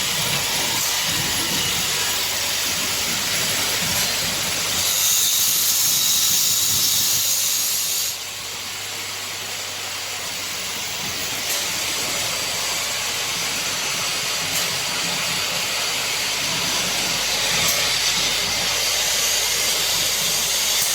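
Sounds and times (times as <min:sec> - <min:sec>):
assembly machinery running: 0:00.0 - 0:20.9.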